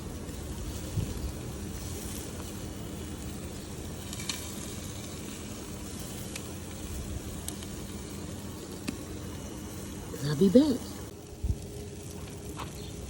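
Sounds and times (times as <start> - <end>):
chicken sizzling on a grill: 0.0 - 13.0.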